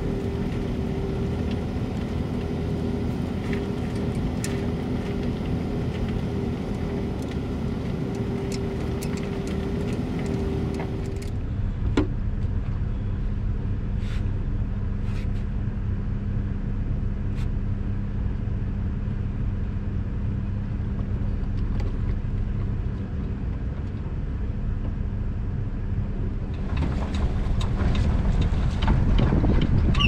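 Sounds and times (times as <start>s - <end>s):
loud rumbling with rattles: 0.0s - 30.0s
vehicle engine idling: 0.0s - 30.0s.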